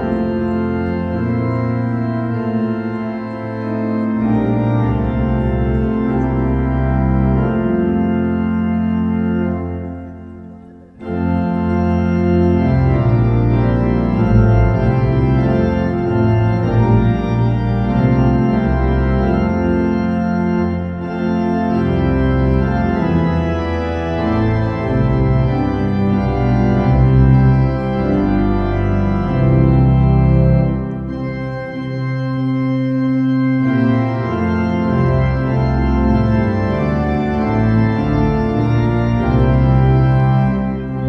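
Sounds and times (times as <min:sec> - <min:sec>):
music of sustained chords: 0:00.0 - 0:41.0.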